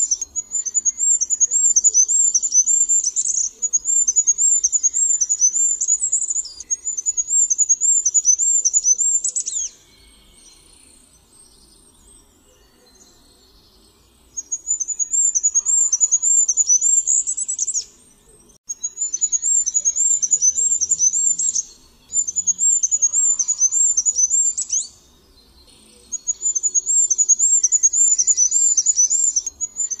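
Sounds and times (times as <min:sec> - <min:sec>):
small bird singing high notes: 0:00.0 - 0:10.8, 0:14.4 - 0:18.0, 0:18.7 - 0:25.0, 0:26.1 - 0:30.0.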